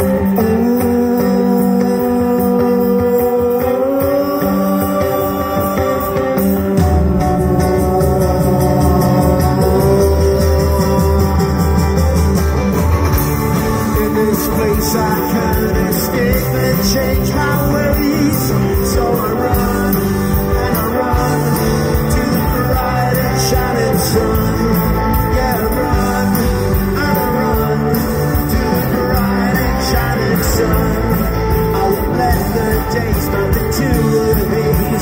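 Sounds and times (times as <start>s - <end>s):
drums: 0.0s - 35.0s
electric guitars: 0.0s - 35.0s.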